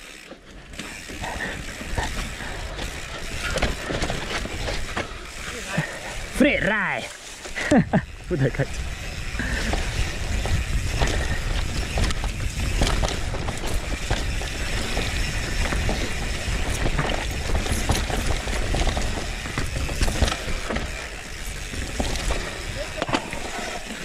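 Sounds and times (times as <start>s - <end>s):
bike chain and frame rattling: 0.0s - 24.0s
tyres rolling on trail: 0.0s - 24.0s.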